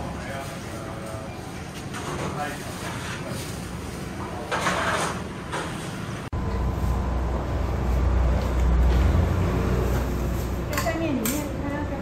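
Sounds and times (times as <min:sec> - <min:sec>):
noodle shop ambience: 0:00.0 - 0:12.0.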